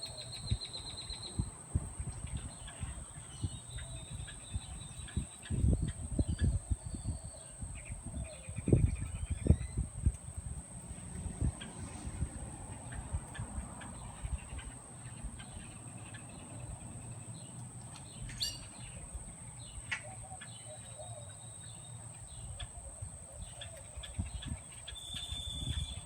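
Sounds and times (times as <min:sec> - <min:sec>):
birds chirping and calling: 0:00.0 - 0:10.3, 0:11.0 - 0:26.0.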